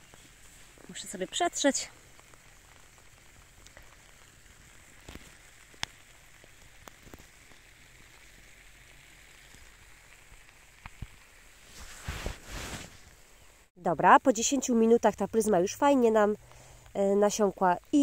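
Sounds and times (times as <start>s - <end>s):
rain pattering: 0.0s - 12.3s, 14.0s - 18.0s.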